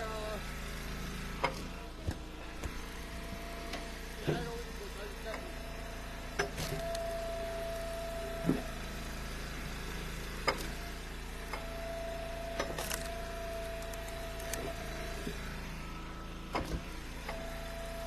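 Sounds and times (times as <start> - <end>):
wood splitter engine running: 0.0 - 18.0.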